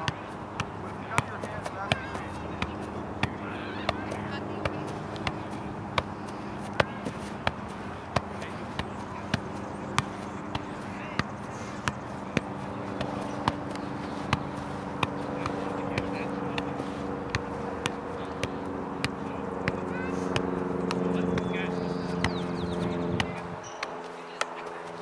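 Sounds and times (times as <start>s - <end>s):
soccer ball taps: 0.0s - 25.0s.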